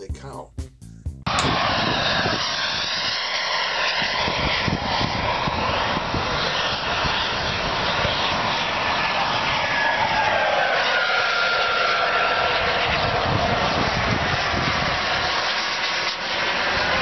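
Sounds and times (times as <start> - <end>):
jet turbine roar: 1.3 - 17.0.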